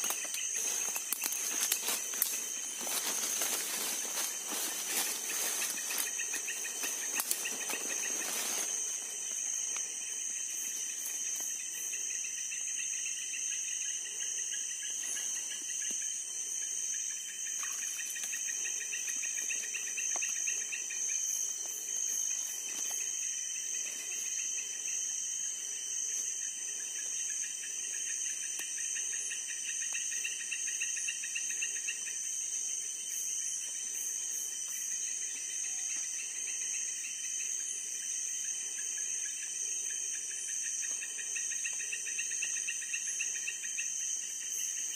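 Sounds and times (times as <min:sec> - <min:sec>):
insects trilling: 0:00.0 - 0:44.9
pulsed insect chirping: 0:00.0 - 0:44.9.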